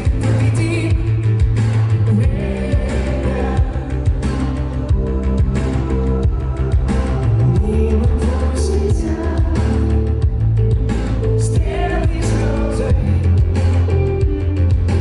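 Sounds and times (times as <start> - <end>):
person singing: 0.0 - 10.4, 11.3 - 14.4
rock band playing live: 0.0 - 15.0.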